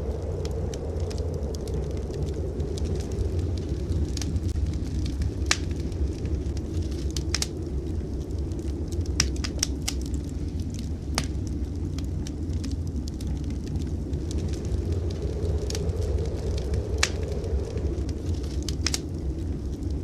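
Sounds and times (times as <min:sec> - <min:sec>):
low fire rumble: 0:00.0 - 0:20.0
wood fire pops and snaps: 0:00.0 - 0:20.0.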